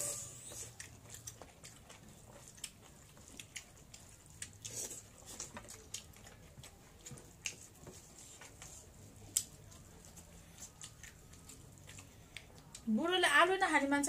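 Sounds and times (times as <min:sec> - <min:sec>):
wet chewing: 0:00.5 - 0:13.0.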